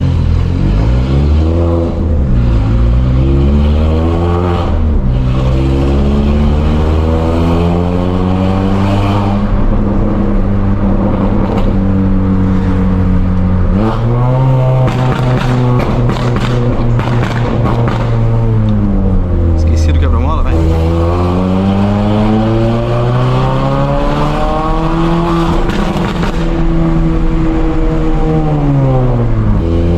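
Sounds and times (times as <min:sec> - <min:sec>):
car engine accelerating: 0:00.0 - 0:29.9.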